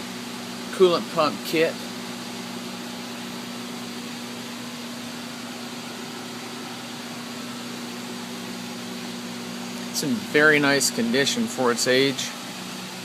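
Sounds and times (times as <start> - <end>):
fan and ventilation hum: 0.0 - 13.0
low electrical drone: 0.0 - 13.0.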